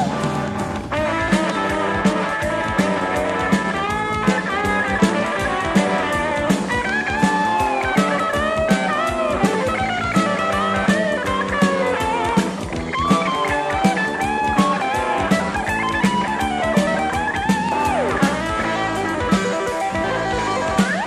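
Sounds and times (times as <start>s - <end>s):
drum beat: 0.0s - 21.0s
electric guitar lead: 0.0s - 21.0s.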